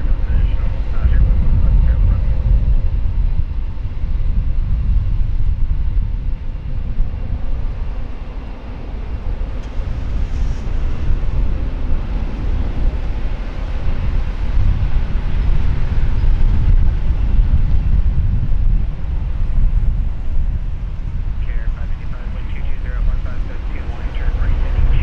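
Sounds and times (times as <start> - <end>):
distant jet engines at takeoff: 0.0 - 25.0
wind buffeting microphone: 0.0 - 25.0.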